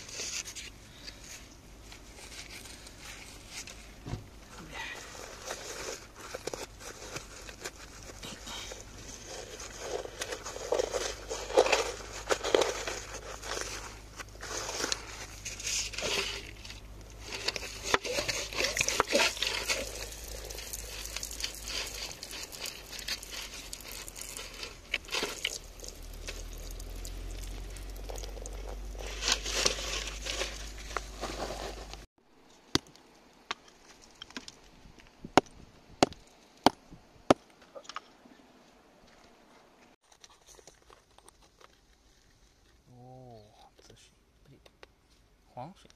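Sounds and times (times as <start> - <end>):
soil and stones scraping: 0.0 - 43.6.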